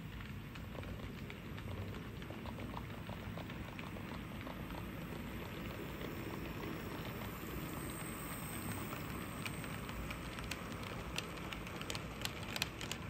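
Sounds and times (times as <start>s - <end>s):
model train rumbling on track: 0.0s - 13.0s
wheels clicking over rails: 0.0s - 13.0s.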